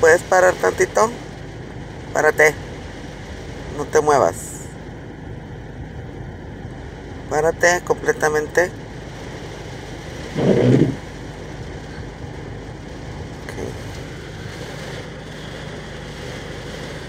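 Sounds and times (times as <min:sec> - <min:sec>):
car engine idling: 0:00.0 - 0:17.0
low engine rumble: 0:00.0 - 0:17.0.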